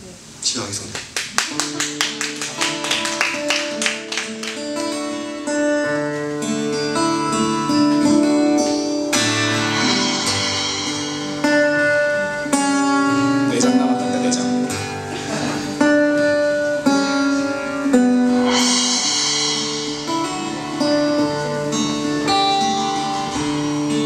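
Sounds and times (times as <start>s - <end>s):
acoustic guitar strumming and picking: 1.2s - 24.0s.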